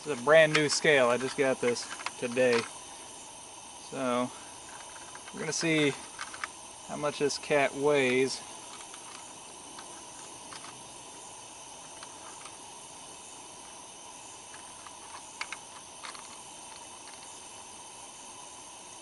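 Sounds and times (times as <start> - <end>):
background hiss: 0.0 - 19.0
thin high steady tones: 0.0 - 19.0.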